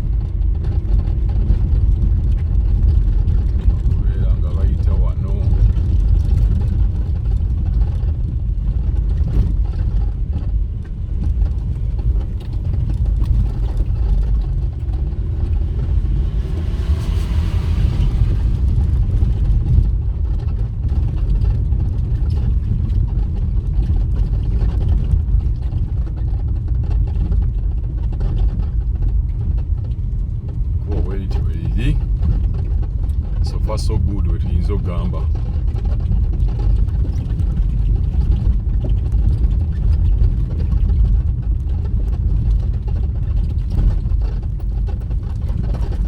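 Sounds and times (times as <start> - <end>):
vehicle engine and road noise: 0.0 - 46.0.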